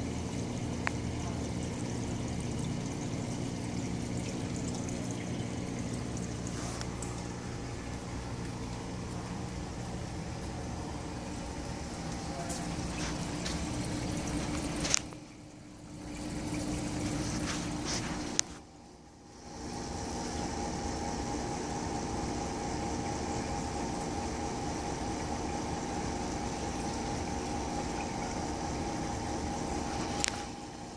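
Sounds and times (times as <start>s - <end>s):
aquarium pump hum: 0.0s - 30.9s
circulating water: 0.0s - 30.9s.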